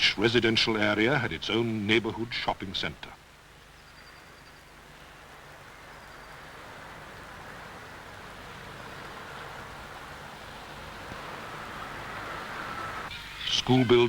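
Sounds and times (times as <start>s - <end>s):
videotape hiss: 0.0s - 14.0s.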